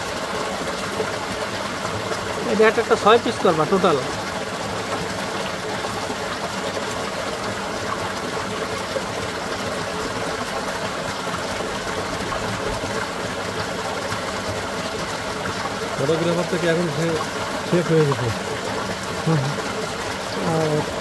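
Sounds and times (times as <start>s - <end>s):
water gushing into trough: 0.0s - 21.0s.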